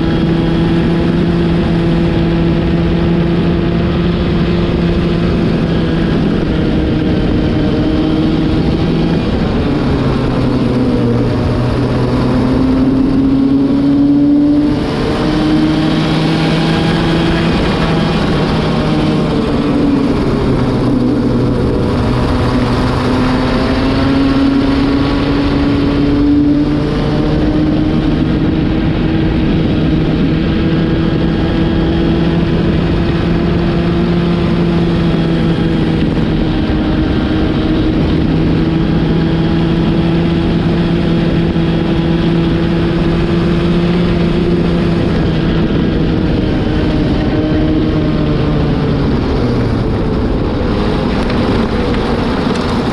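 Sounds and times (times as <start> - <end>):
racing kart engine: 0.0 - 52.9.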